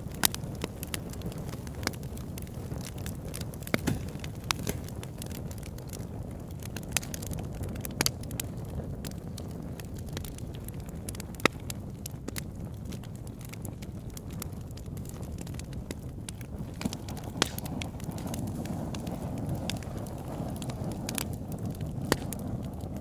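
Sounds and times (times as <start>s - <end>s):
log fire crackling and popping: 0.0s - 23.0s
low fire rumble: 0.0s - 23.0s.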